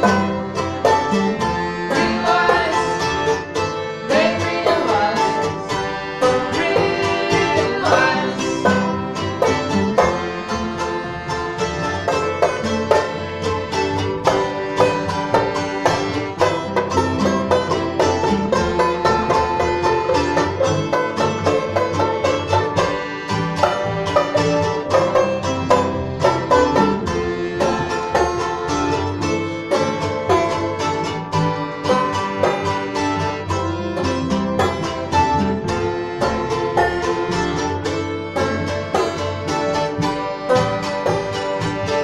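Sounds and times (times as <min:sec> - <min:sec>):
acoustic string band playing: 0:00.0 - 0:42.0
plucked banjo notes: 0:00.0 - 0:42.0.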